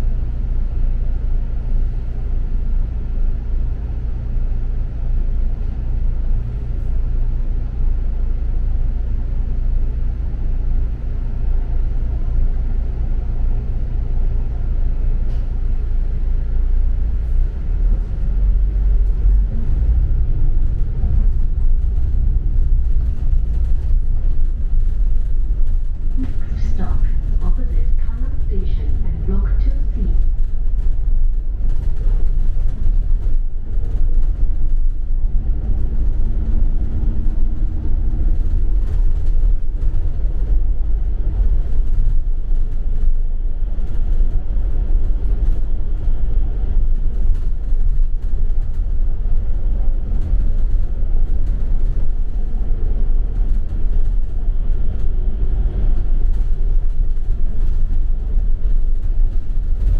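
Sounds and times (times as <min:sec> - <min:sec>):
bus engine and road rumble: 0:00.0 - 0:59.9
faint engine hum: 0:00.0 - 0:59.9.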